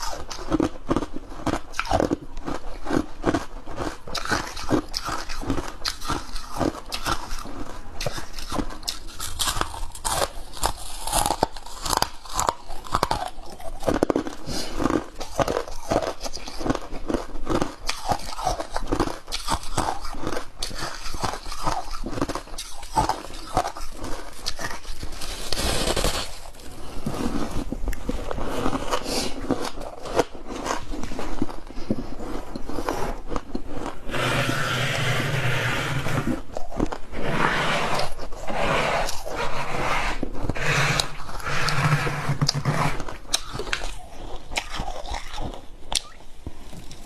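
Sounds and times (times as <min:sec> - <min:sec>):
chewing crunchy ice: 0:00.0 - 0:47.0.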